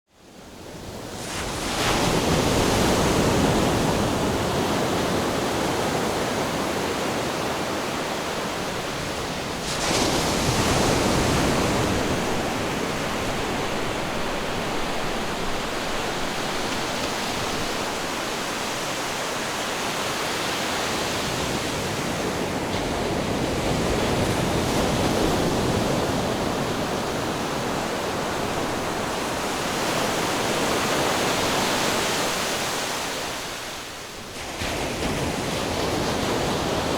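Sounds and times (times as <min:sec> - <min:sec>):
ocean waves breaking: 0:01.0 - 0:36.9.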